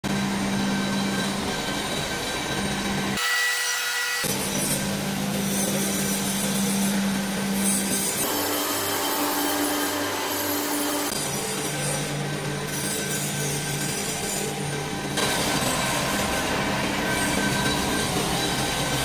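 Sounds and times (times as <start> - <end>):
workshop machinery humming: 0.0 - 19.0.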